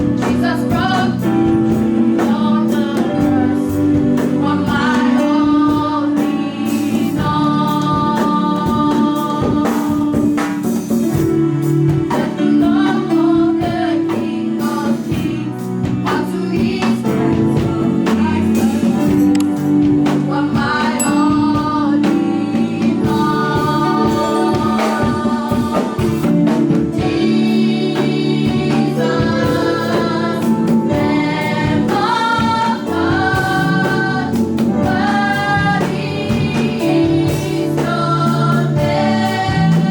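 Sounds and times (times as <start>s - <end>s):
choir singing gospel song: 0.0s - 39.9s
live band with steady beat: 0.0s - 39.9s.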